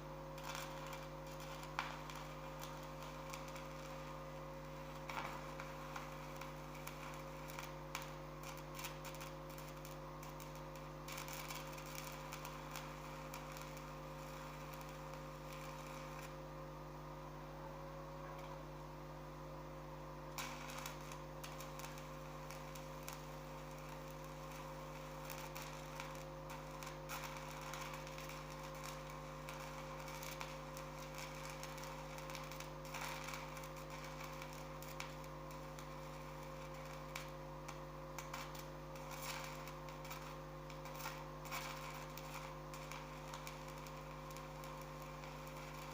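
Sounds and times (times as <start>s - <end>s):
electrical hum: 0.0s - 45.9s
welding arc crackling: 0.0s - 45.9s.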